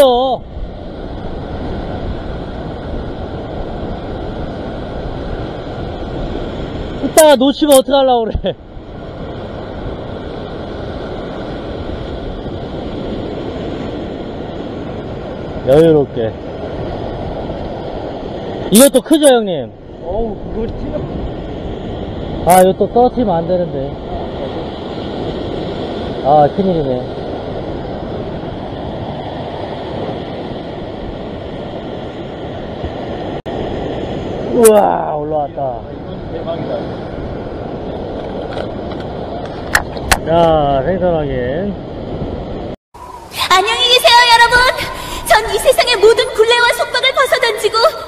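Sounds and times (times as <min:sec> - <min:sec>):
wind rumble on microphone: 0:00.0 - 0:18.8, 0:19.5 - 0:43.4
ocean surf breaking over rocks: 0:00.0 - 0:48.0.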